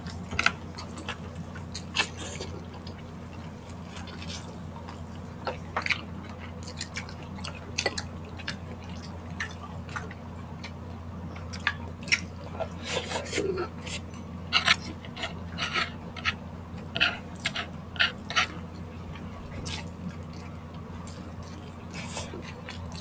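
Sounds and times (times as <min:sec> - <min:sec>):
close chewing and wet mouth sounds: 0:00.0 - 0:23.0
steady low hum: 0:00.0 - 0:23.0.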